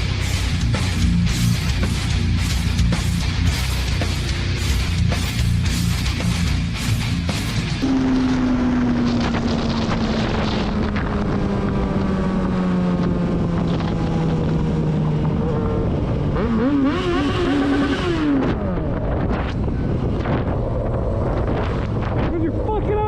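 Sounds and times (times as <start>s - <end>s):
motorcycle engine: 0.0s - 22.8s
wind noise on microphone: 4.1s - 23.0s.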